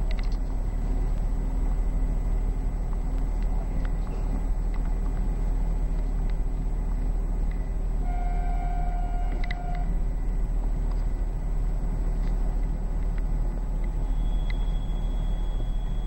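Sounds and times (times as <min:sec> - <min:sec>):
diesel railcar running rumble: 0:00.0 - 0:16.0.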